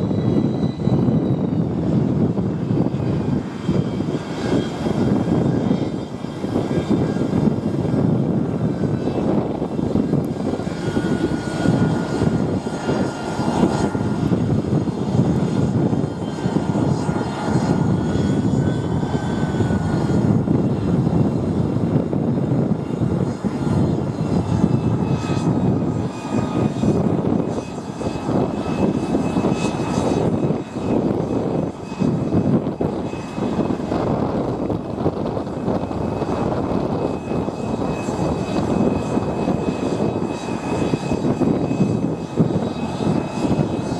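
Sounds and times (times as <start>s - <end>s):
high turbine whine: 0.0s - 43.9s
jet engines running: 0.0s - 43.9s.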